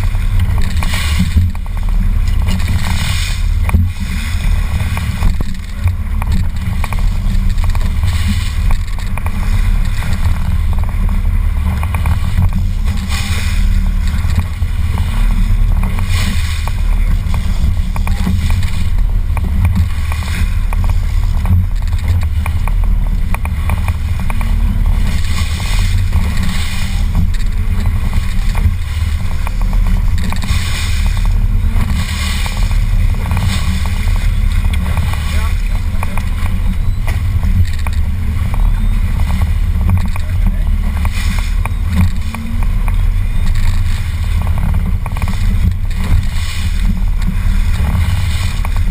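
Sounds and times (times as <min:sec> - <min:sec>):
boat engine rumble: 0:00.0 - 0:48.9
water and wind hiss: 0:00.0 - 0:48.9.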